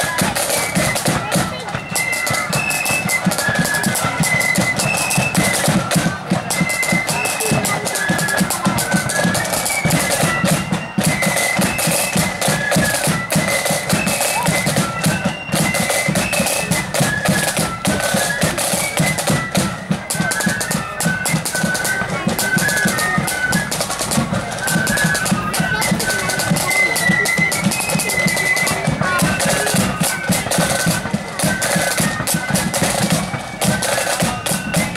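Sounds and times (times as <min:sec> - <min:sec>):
flutes playing a high tune: 0:00.0 - 0:34.9.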